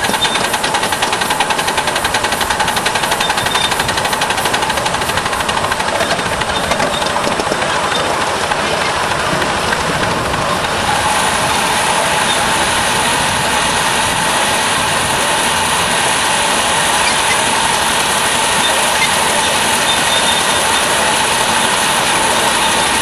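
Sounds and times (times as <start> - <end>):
steam locomotive rushing: 0.0 - 23.0.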